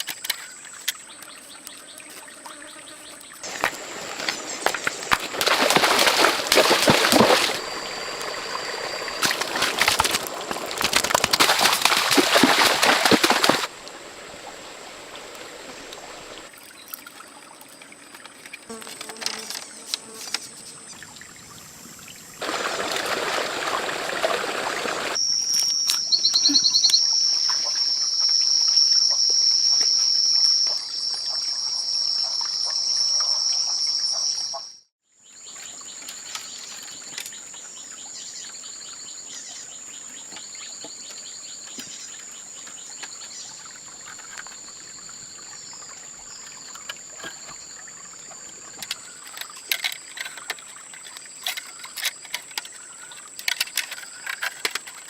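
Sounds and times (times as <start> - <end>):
pulsing insect calls: 0.0 - 16.9, 24.6 - 55.0
insects droning: 0.0 - 55.0.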